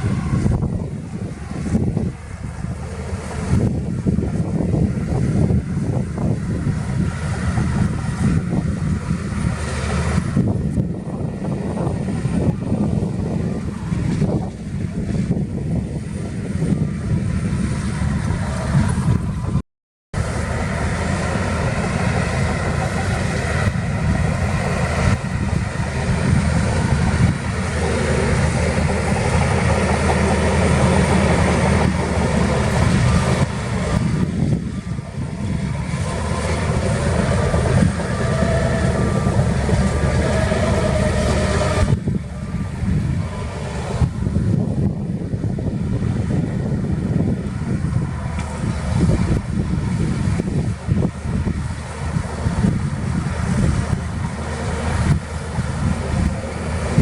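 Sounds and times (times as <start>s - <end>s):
heavy diesel machinery running: 0.0s - 19.6s, 20.2s - 57.0s.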